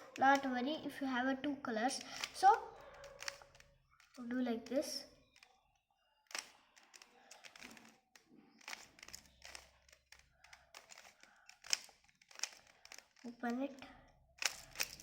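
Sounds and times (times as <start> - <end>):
plastic puzzle cube clicking: 0.1 - 0.5, 1.9 - 5.6, 6.2 - 15.0.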